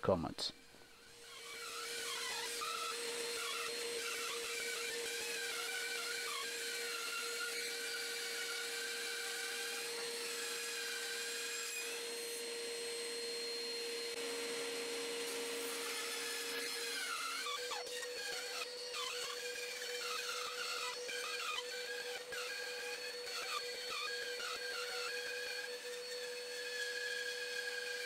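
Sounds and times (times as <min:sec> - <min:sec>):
band saw motor hum: 0:00.0 - 0:28.0
saw blade cutting whine: 0:00.0 - 0:28.0.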